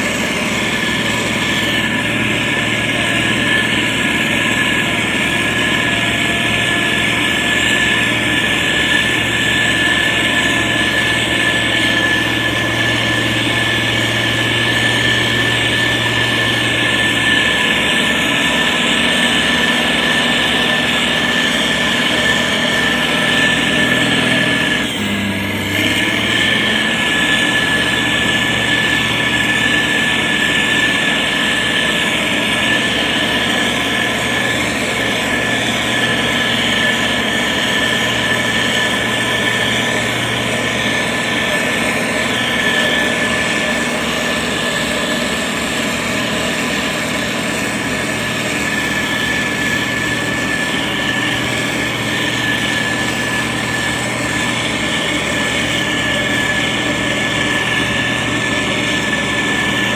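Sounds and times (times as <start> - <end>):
grader diesel engine drone: 0.0 - 59.9
high machine whine: 0.0 - 59.9.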